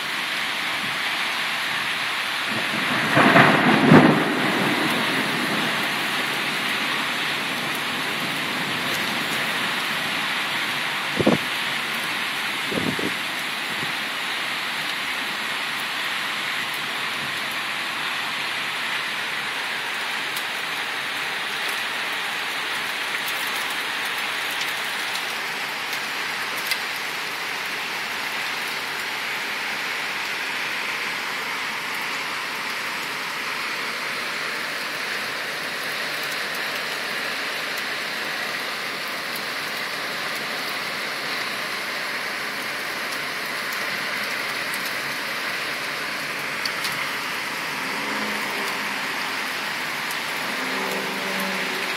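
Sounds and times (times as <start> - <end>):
heavy rain downpour: 0.0 - 51.9.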